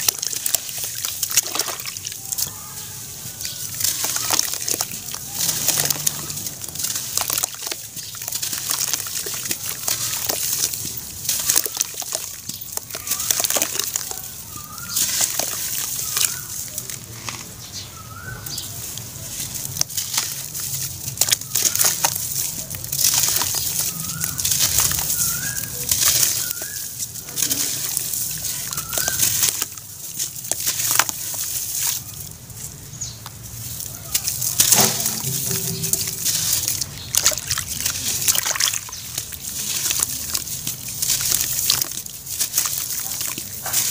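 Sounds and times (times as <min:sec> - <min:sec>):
water sloshing and splashing: 0:00.0 - 0:43.9
wet ash crunching by hand: 0:00.0 - 0:43.9.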